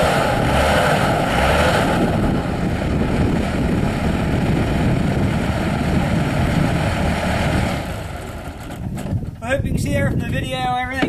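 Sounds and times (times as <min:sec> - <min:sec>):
loud rushing sound: 0:00.0 - 0:08.9
diesel engine running loudly: 0:00.0 - 0:09.4.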